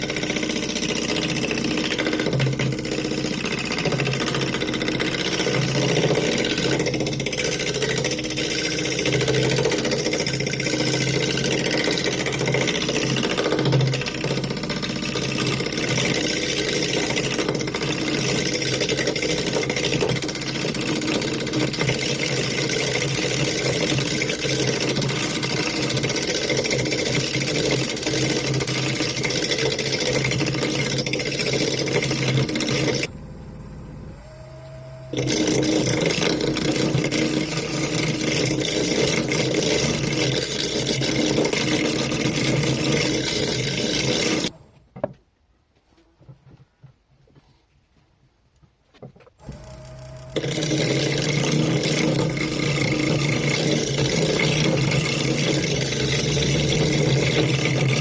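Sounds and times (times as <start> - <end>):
lathe motor hum: 0.0 - 44.6, 49.4 - 58.0
turning tool cutting wood: 0.0 - 44.6, 49.4 - 58.0.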